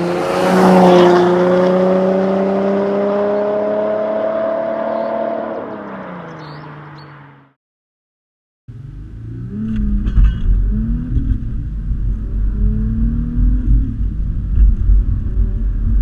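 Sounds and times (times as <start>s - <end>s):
car engine accelerating: 0.0s - 7.6s, 8.7s - 16.0s.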